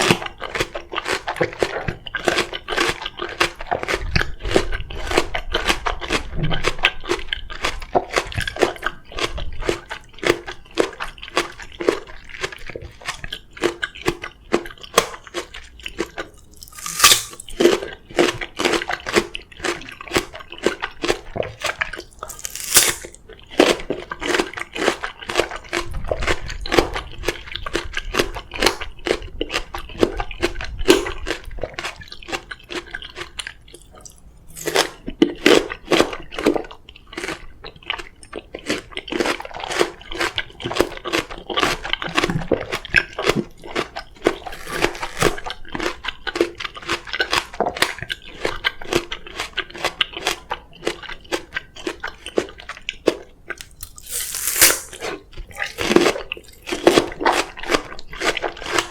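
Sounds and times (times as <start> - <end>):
crunchy chewing of melon: 0.0 - 58.9.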